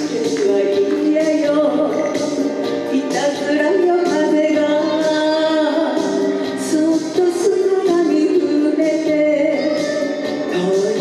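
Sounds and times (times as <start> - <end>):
karaoke backing track: 0.0 - 11.0
woman singing: 0.0 - 11.0.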